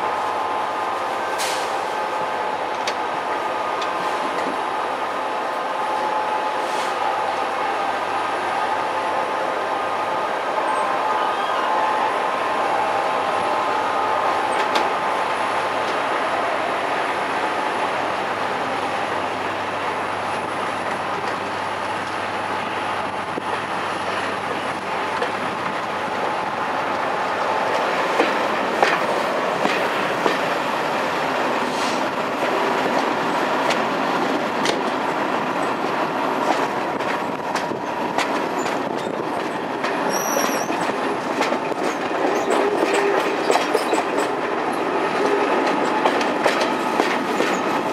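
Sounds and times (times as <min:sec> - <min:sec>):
train rail rumble: 0:00.0 - 0:47.9.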